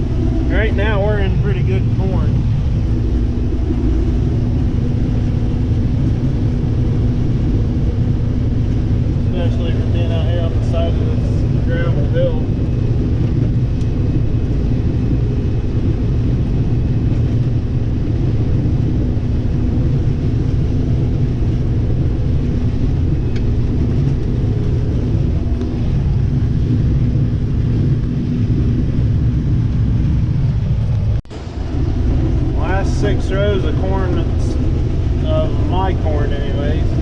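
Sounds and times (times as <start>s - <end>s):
combine harvester droning: 0.0s - 37.0s.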